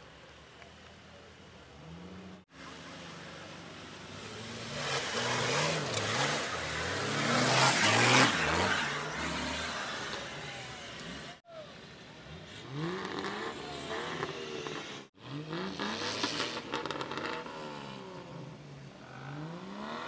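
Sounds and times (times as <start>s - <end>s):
off-road engine revving: 1.6s - 11.5s, 12.1s - 20.0s.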